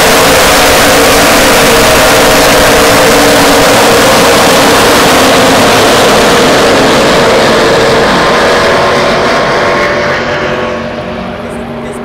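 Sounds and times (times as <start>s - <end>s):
stock car engines roaring: 0.0s - 12.0s.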